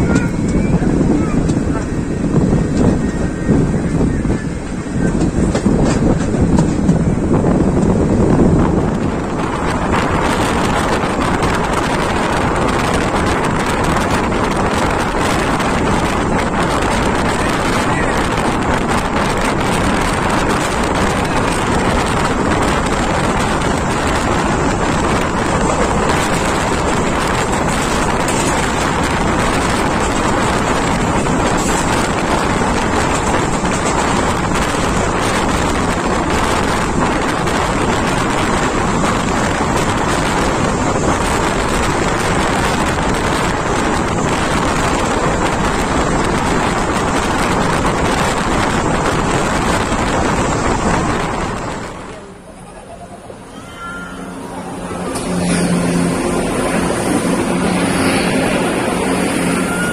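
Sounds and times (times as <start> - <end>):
wind buffeting microphone: 0.0 - 53.5, 54.3 - 59.9
train coach rolling on track: 0.0 - 59.9.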